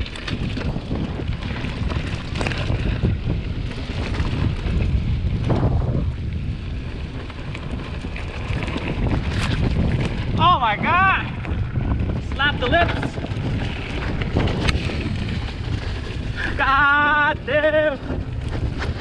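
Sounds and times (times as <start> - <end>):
bike knocking and rattling: 0.0 - 19.0
tyres rumbling on dirt trail: 0.0 - 19.0
wind buffeting microphone: 0.0 - 19.0.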